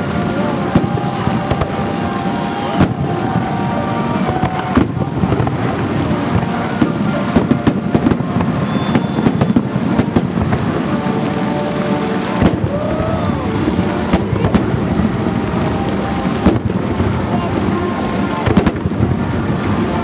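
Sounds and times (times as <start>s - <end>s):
fireworks bursting and crackling: 0.0s - 20.0s
heavy fireworks bangs: 0.0s - 20.0s.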